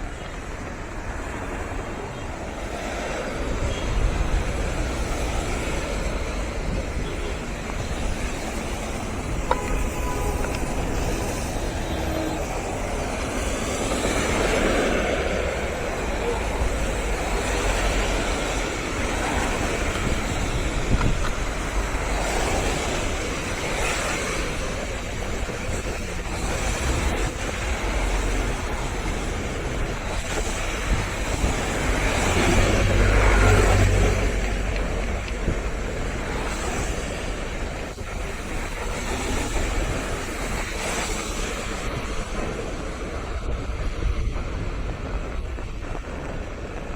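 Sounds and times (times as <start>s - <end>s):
road traffic rushing: 0.0s - 46.9s
sea waves: 0.0s - 46.9s
wind rumbling on microphone: 0.0s - 46.9s.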